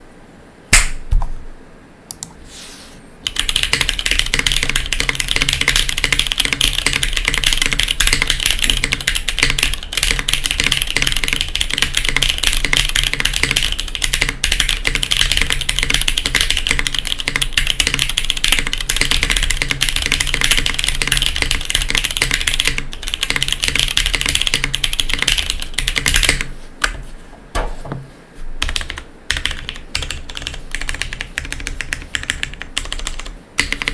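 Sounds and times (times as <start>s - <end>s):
mechanical keyboard typing: 3.2s - 27.0s, 28.6s - 33.9s.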